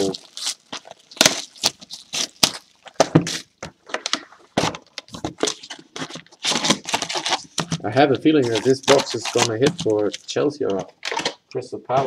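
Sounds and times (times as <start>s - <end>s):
plastic shrink wrap crinkling: 0.0s - 11.5s.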